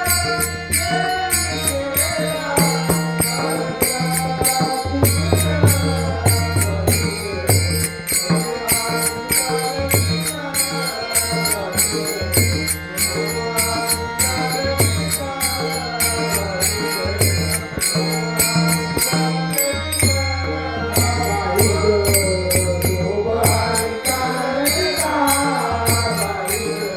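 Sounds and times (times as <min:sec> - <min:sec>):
man singing: 0:00.0 - 0:26.9
small hand cymbals: 0:00.0 - 0:26.9.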